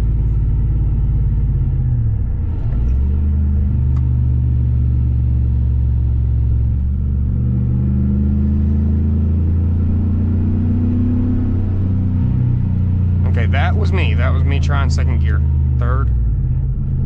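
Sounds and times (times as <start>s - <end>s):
transmission shifting gears: 0.0s - 17.0s
truck engine cruising: 0.0s - 17.0s.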